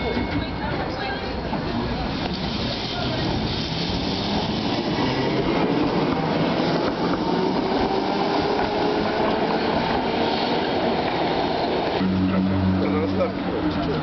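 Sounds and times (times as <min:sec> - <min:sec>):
tram wheels rolling on rails: 0:00.0 - 0:14.0.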